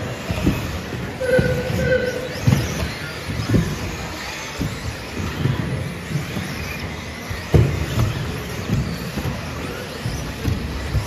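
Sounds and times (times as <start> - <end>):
hall background noise: 0.0 - 11.0
rc car motor whine: 0.0 - 11.0.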